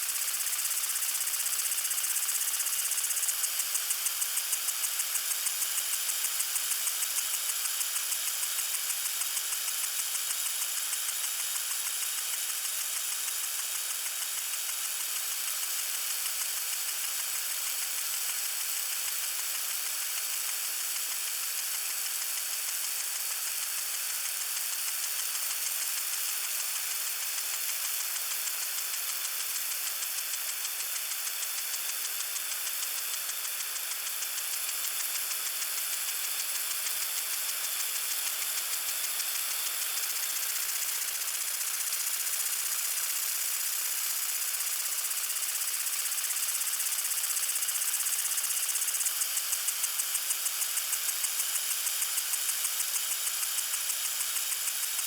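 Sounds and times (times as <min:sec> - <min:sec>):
lawn sprinkler spraying water: 0:00.0 - 0:55.0.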